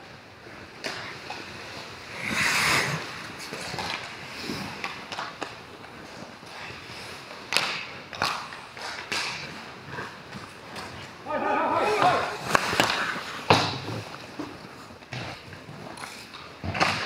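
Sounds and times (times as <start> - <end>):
skate blades scraping ice: 0.5 - 17.0
hockey sticks and puck clacking: 0.6 - 17.0.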